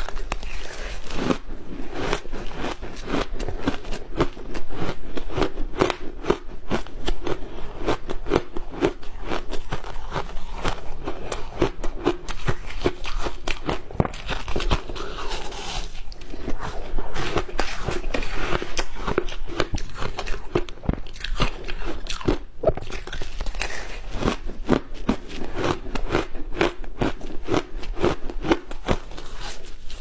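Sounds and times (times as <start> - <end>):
crunching and chewing ice: 0.0 - 30.0.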